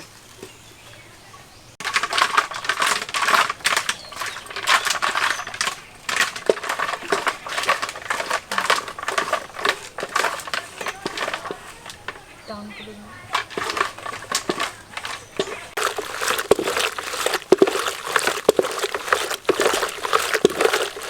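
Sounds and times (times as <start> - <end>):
ice and wood clattering in bucket: 1.8 - 21.0.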